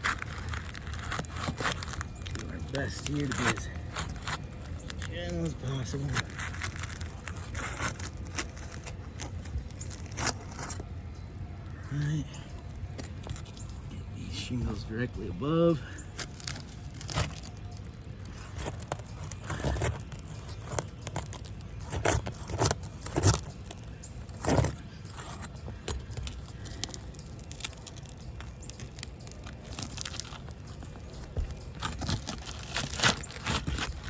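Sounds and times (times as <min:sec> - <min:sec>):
shingles scraping and snapping: 0:00.0 - 0:11.3, 0:14.5 - 0:34.0.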